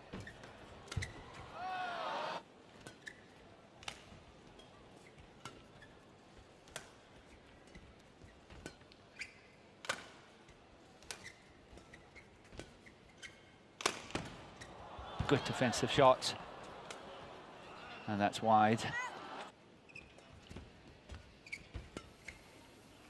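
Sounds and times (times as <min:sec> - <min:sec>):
court shoes squeaking: 0:00.0 - 0:01.6, 0:02.7 - 0:03.5, 0:04.4 - 0:10.0, 0:11.0 - 0:22.6.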